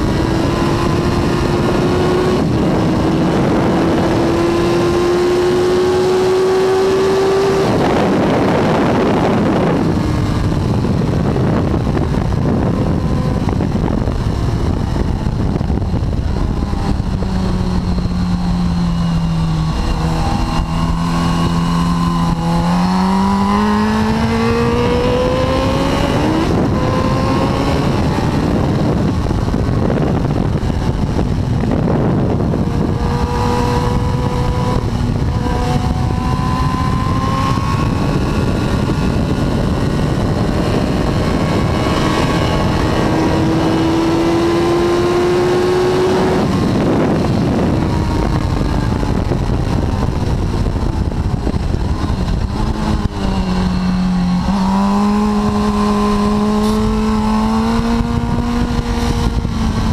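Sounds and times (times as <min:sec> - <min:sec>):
motorcycle engine at speed: 0:00.0 - 0:59.9
wind rush on microphone: 0:00.0 - 0:59.9.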